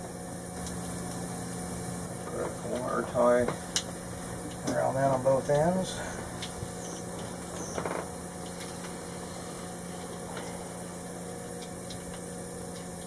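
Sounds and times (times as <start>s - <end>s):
electric pump motor humming: 0.0s - 13.0s.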